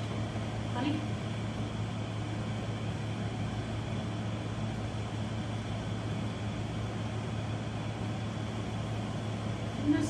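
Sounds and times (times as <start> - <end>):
machine hum with hiss: 0.0 - 10.0.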